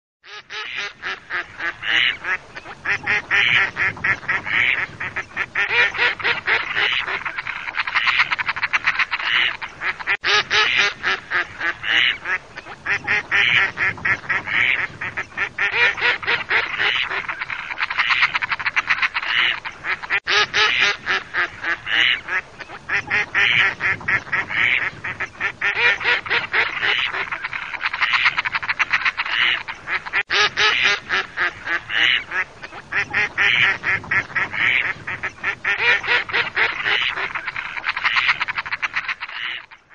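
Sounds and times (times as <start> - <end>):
ducks quacking: 0.2 - 39.9.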